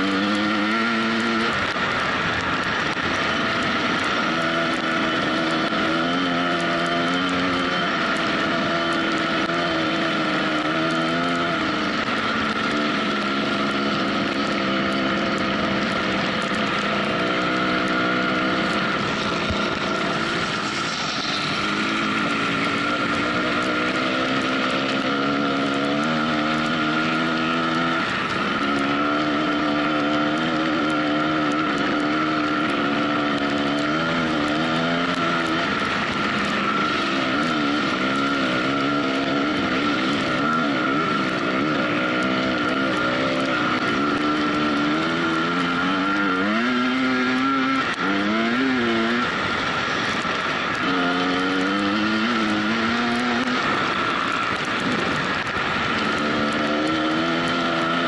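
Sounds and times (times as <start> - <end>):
off-road motorcycle engine revving: 0.0 - 58.0.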